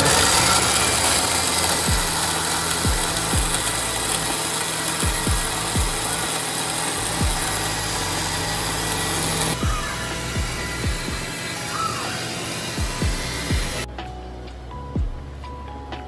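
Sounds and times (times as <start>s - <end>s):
blender whirring: 0.0s - 13.9s.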